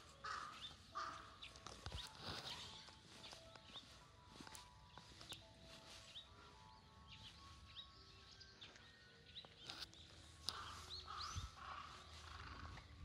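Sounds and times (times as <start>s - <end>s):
small bird chirps: 0.0s - 13.0s.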